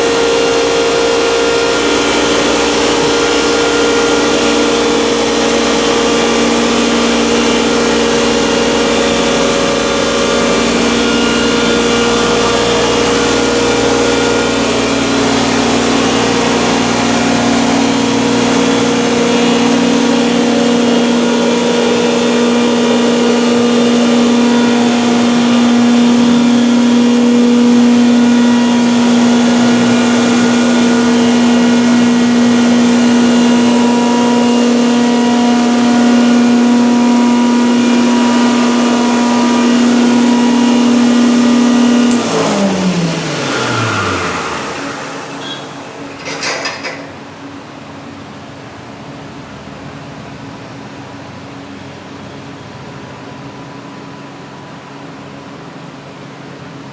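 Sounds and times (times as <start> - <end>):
grinder machine humming: 0.0 - 47.4.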